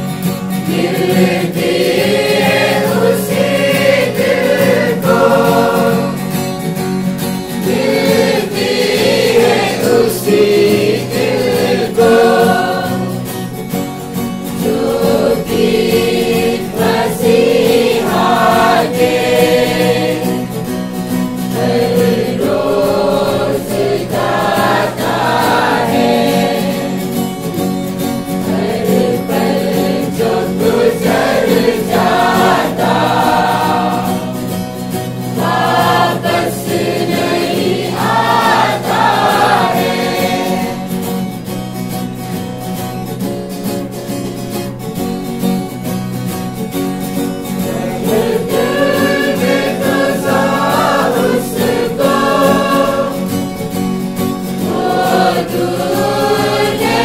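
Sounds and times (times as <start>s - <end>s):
mixed choir singing a carol: 0.0s - 43.2s, 47.0s - 57.0s
guitar accompaniment: 0.0s - 57.0s.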